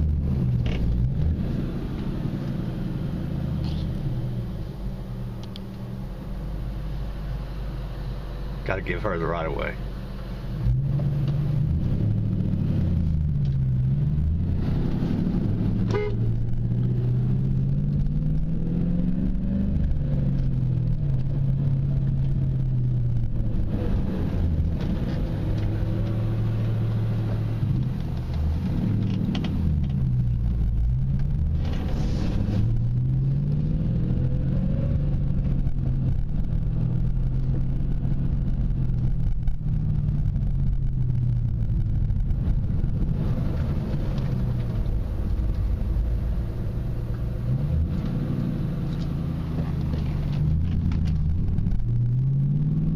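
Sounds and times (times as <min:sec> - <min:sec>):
car engine accelerating through gears: 0:00.0 - 0:52.9.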